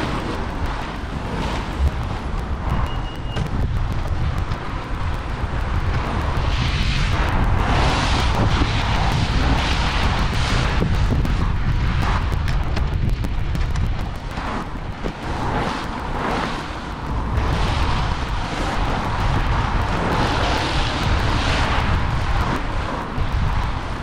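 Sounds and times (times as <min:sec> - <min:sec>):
road traffic: 0:00.0 - 0:24.0
wind: 0:00.0 - 0:24.0.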